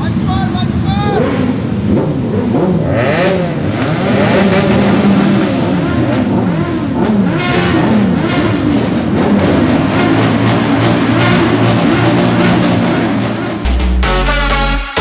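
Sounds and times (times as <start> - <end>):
motorcycle engines revving: 0.0 - 13.7.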